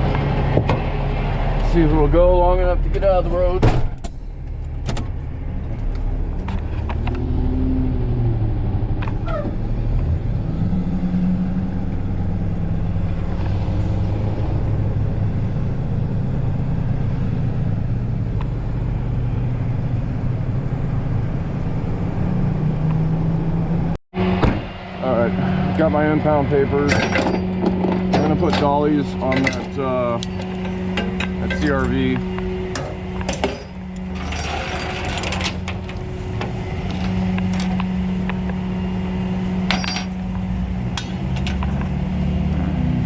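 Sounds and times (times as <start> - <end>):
car engine running poorly: 0.0 - 43.0.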